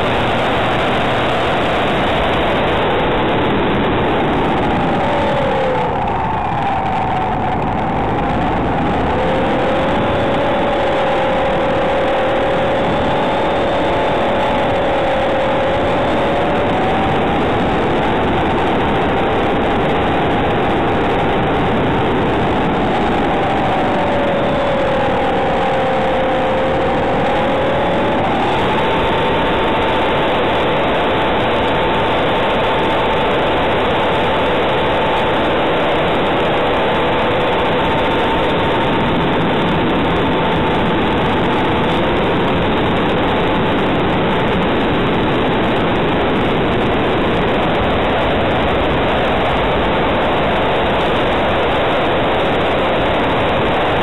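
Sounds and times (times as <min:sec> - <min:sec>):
airflow rushing over microphone: 0:00.0 - 0:54.0
motor propeller hum: 0:00.0 - 0:54.0.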